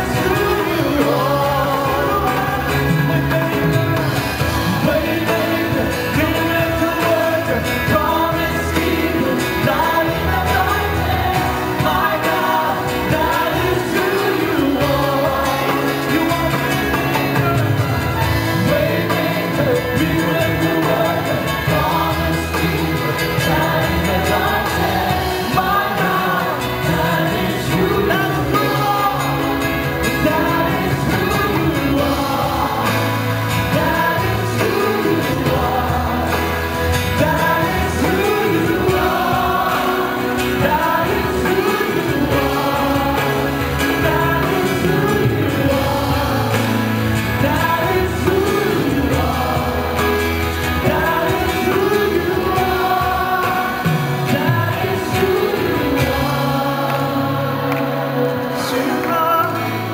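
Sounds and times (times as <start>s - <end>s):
amplified backing music with bass: 0.0s - 59.9s
group singing worship song: 0.0s - 59.9s.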